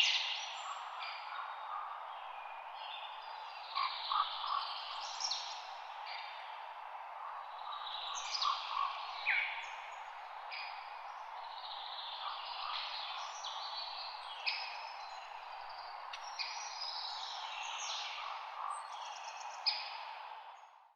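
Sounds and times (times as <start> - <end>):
songbirds singing and chirping: 0.0 - 20.6
wind in leaves: 0.0 - 20.9.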